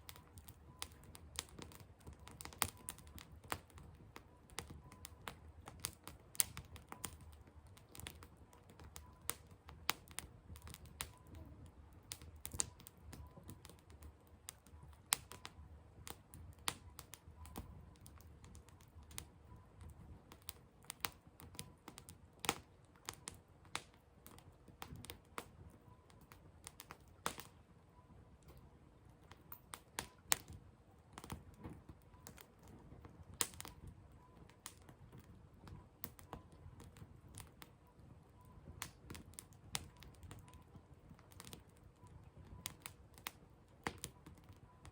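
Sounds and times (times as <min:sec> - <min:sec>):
firewood crackling and popping: 0:00.0 - 0:44.9
low rumble of flames: 0:00.0 - 0:44.9.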